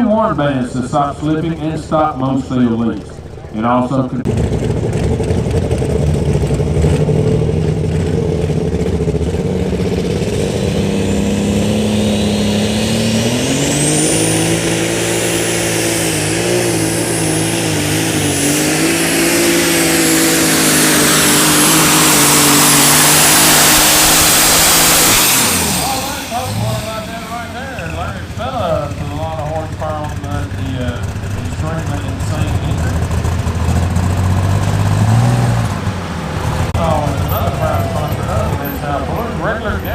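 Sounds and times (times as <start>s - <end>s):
tractor engine under load: 0.0s - 39.9s.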